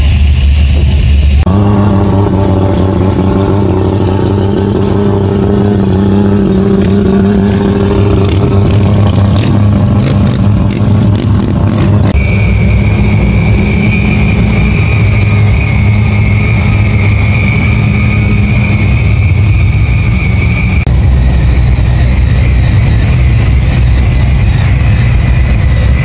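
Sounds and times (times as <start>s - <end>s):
steady high-pitched tone: 0.0s - 11.0s, 12.0s - 26.0s
car engine idling: 0.0s - 26.0s
car engine running: 0.0s - 26.0s.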